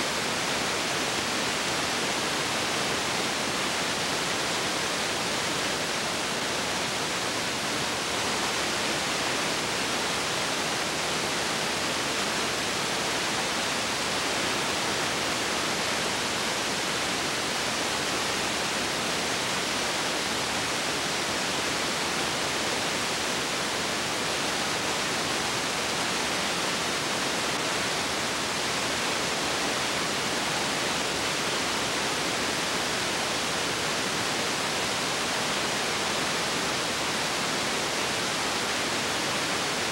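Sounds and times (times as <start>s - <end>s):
steady tape hiss: 0.0s - 39.9s.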